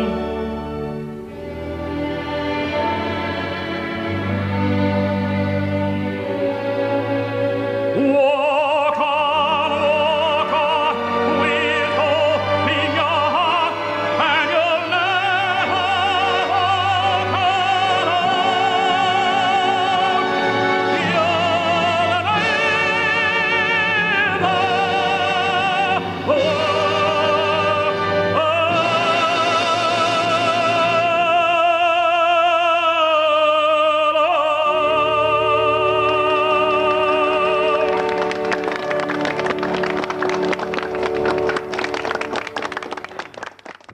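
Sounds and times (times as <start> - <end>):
operatic tenor singing: 0.0 - 42.6
full orchestra playing: 0.0 - 43.8.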